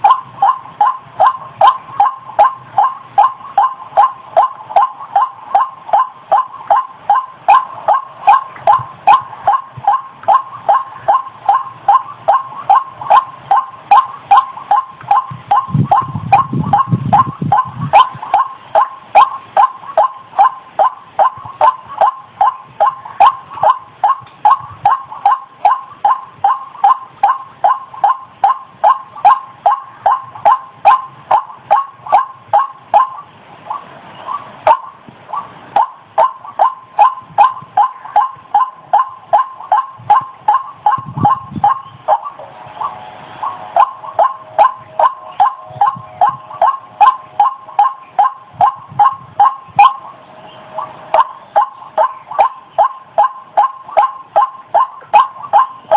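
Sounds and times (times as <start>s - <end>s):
waterhen croaking call: 0.0s - 55.9s.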